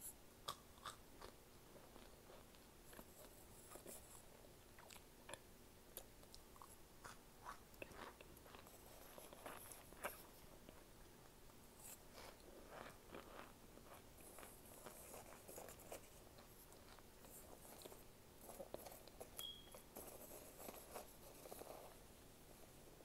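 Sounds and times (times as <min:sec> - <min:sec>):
faint chewing crunches: 0:00.4 - 0:19.5.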